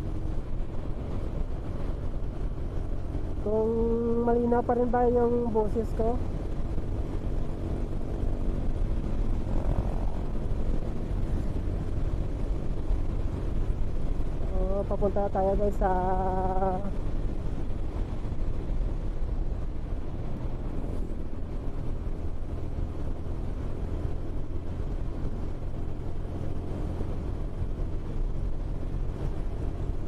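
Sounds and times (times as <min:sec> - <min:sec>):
road noise: 0:00.0 - 0:30.0
wind noise: 0:00.0 - 0:30.0.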